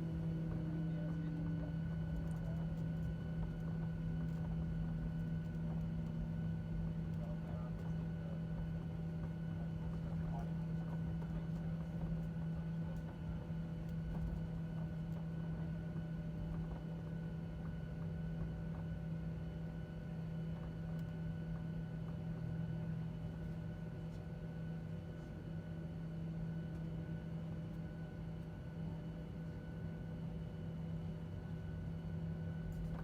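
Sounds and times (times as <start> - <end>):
airplane cabin drone: 0.0 - 33.0.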